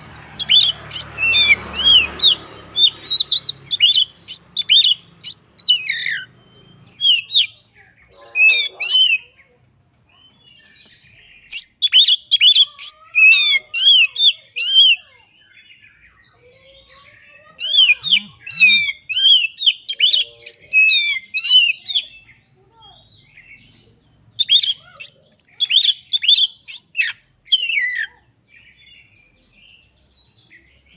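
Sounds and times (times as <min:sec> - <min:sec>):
bird singing whistled notes: 0:00.0 - 0:07.6, 0:10.4 - 0:16.5, 0:17.7 - 0:30.9.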